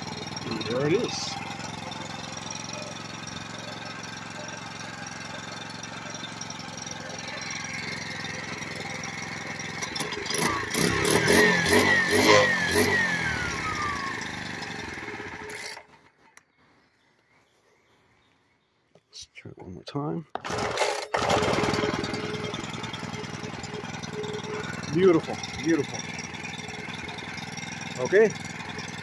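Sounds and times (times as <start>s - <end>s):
cutoff saw engine revving: 0.0s - 16.1s, 20.4s - 29.0s.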